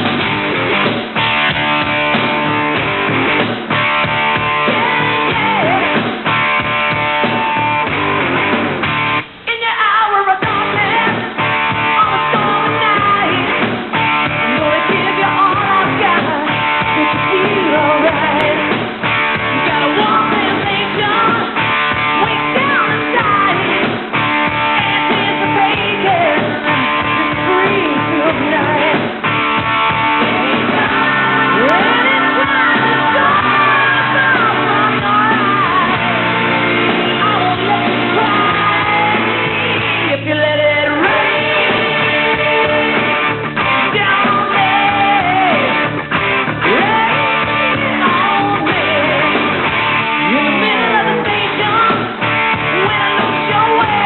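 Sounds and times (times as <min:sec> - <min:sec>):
electric guitar: 0:00.0 - 0:09.6, 0:10.3 - 0:54.0.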